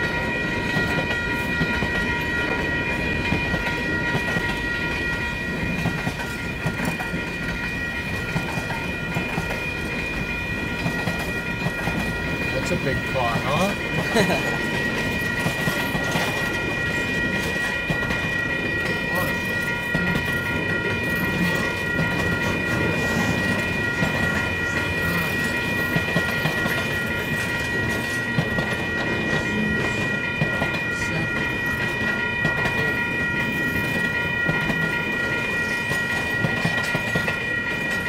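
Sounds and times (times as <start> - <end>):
crossing bell ringing: 0.0 - 38.0
freight train wheels rumbling: 0.0 - 38.0.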